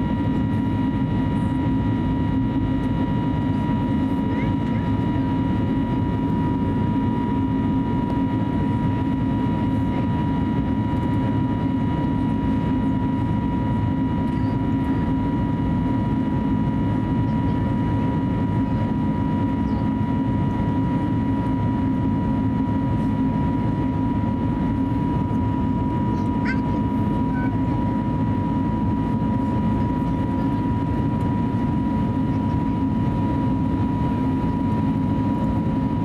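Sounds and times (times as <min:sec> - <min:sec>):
airplane cabin rumble: 0:00.0 - 0:36.0.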